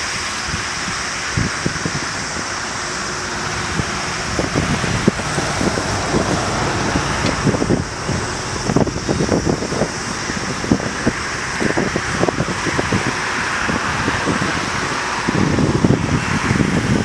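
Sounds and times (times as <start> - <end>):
jet engine takeoff roar: 0.0 - 17.0
low crackling rumbles: 1.4 - 17.0.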